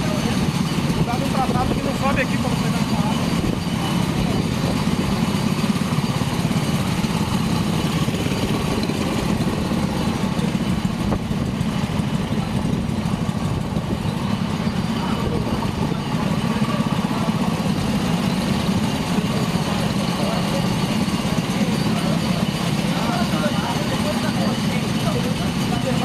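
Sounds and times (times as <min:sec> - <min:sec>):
kart engine idling: 0:00.0 - 0:26.0.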